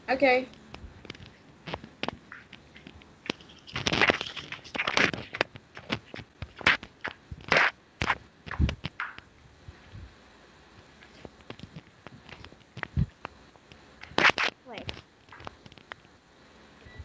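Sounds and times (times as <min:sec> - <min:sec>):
rustling and scraping: 0:00.6 - 0:10.1, 0:10.8 - 0:16.2.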